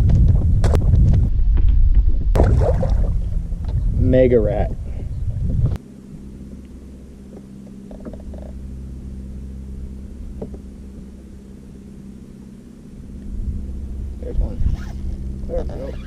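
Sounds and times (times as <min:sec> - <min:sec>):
loud low rumble: 0:00.0 - 0:16.0
electric trolling motor humming: 0:02.6 - 0:16.0.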